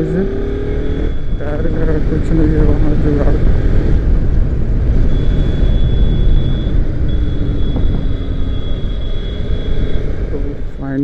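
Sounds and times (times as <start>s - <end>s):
motorcycle engine running: 0.0s - 11.0s
wind and road rumble: 0.0s - 11.0s.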